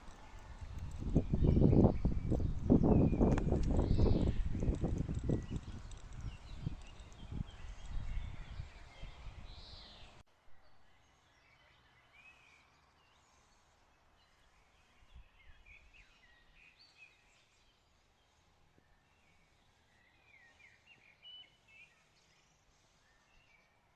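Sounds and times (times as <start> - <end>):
faint birds chirping: 0.0 - 23.9.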